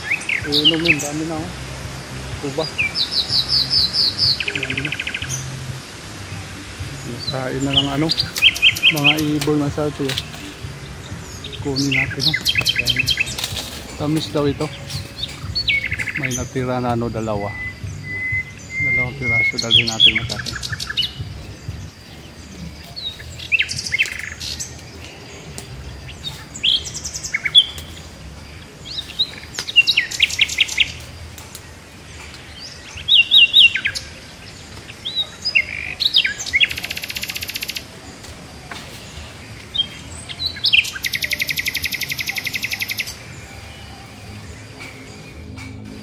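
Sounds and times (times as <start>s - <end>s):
small birds chirping and trilling: 0.0s - 46.0s.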